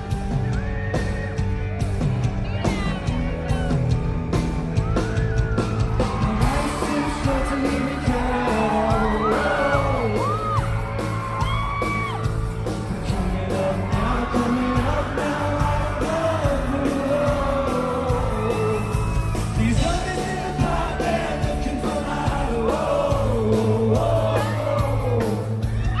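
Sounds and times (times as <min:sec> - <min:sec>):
crowd yelling and whooping: 0:00.0 - 0:01.9, 0:04.6 - 0:26.0
live band with singer: 0:00.0 - 0:26.0.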